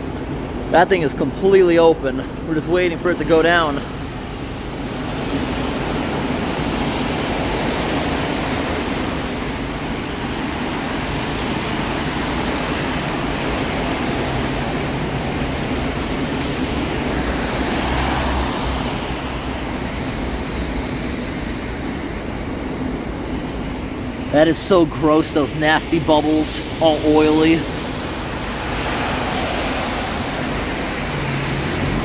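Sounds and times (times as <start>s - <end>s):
pouring rain: 2.2s - 32.0s
cars hissing on wet road: 3.5s - 32.0s.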